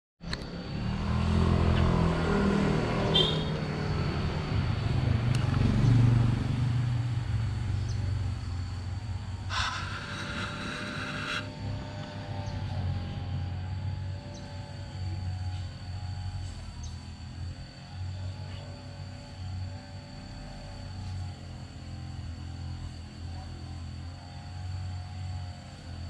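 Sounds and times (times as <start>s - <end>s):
vehicle engine running: 0.2s - 26.0s.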